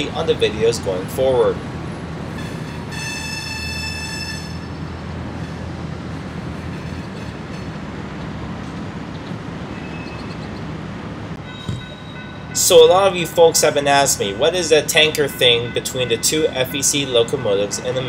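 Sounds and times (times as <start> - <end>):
freight train rumble: 0.0 - 18.0.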